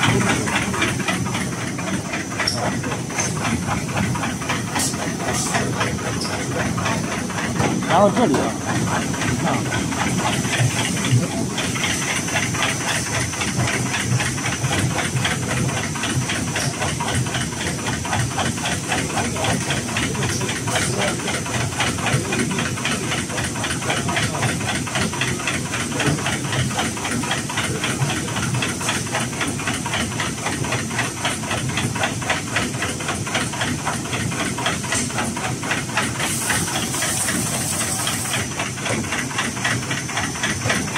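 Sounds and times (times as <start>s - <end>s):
pleating machine clattering: 0.0s - 40.9s.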